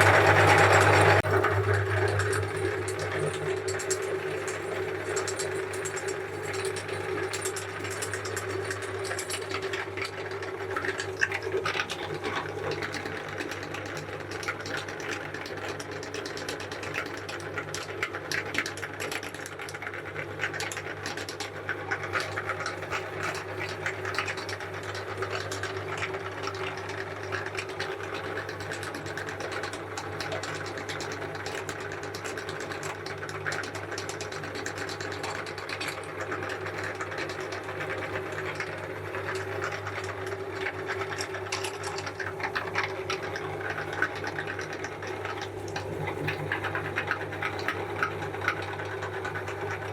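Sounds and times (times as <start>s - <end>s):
ice cream cone crackling in grinder: 0.0s - 49.9s
meat grinder motor hum: 0.0s - 49.9s.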